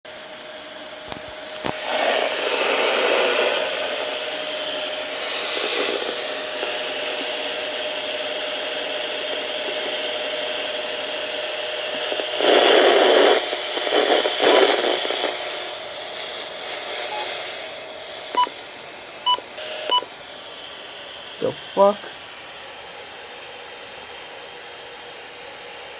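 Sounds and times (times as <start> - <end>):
faint steady hum: 0.2 - 25.9
loud rushes of static: 1.1 - 22.5
radio static hiss: 1.1 - 22.6.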